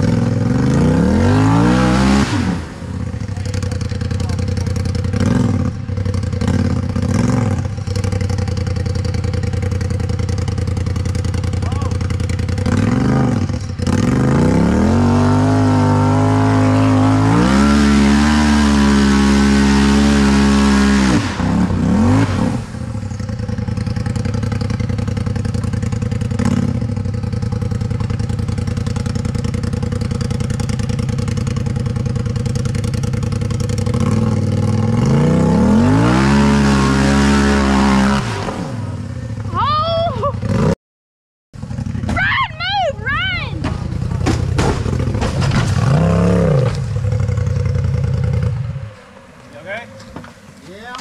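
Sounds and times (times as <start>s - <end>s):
off-road vehicle engine revving: 0.0s - 40.8s, 41.6s - 51.0s.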